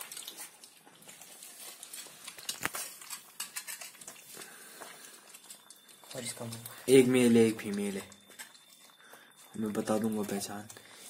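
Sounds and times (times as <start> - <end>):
puppies lapping milk: 0.0 - 11.0.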